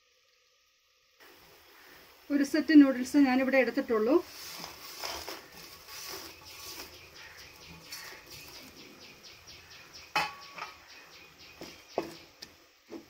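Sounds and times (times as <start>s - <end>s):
water boiling with bubbling pops: 0.0s - 13.0s.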